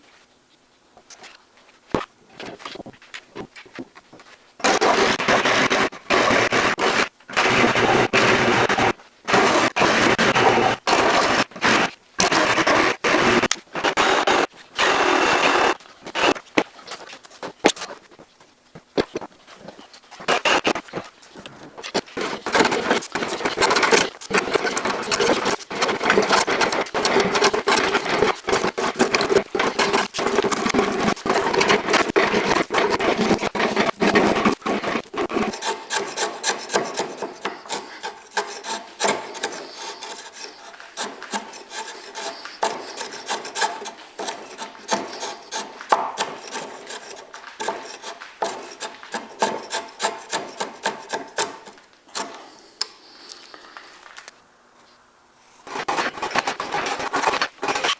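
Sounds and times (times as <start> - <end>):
hand plane shaving wood: 4.6 - 18.2, 19.0 - 21.1, 21.9 - 52.3, 55.6 - 57.9.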